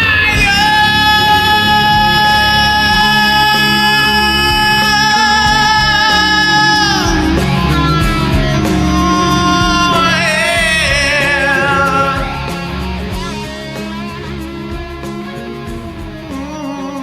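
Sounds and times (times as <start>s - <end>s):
electric guitar: 0.0s - 17.0s
hard rock song: 0.0s - 17.0s
high held vocal note: 0.0s - 17.0s.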